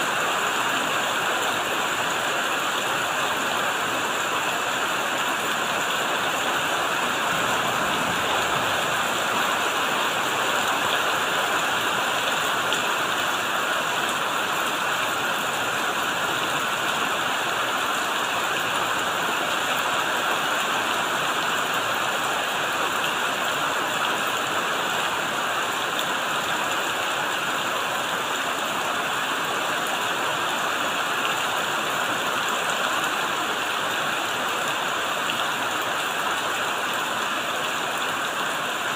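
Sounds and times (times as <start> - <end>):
rain on leaves and roof: 0.0 - 38.9.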